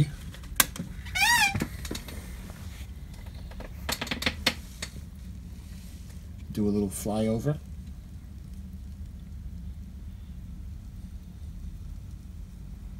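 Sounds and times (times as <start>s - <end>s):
faint low hum: 0.0s - 12.9s.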